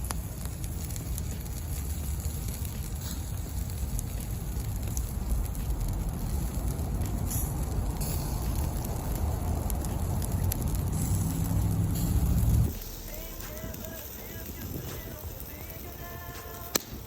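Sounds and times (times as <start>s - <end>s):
campfire crackling: 0.0s - 17.0s
fire low rumble: 0.0s - 17.0s.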